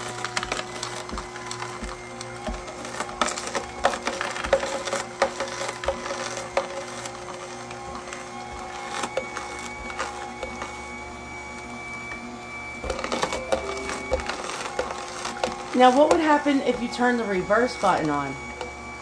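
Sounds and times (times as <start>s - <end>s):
auger crushing vegetables: 0.0s - 19.0s
juicer motor hum: 0.0s - 19.0s.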